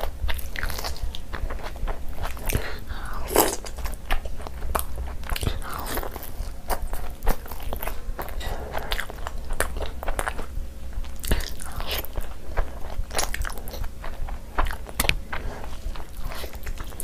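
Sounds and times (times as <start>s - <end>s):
bread crunching: 0.0s - 17.0s
person chewing food: 0.0s - 17.0s.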